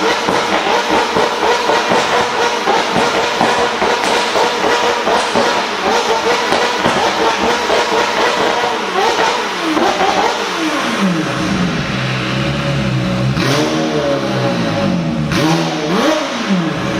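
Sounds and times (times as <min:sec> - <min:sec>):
sports car engine revving: 0:00.0 - 0:16.9.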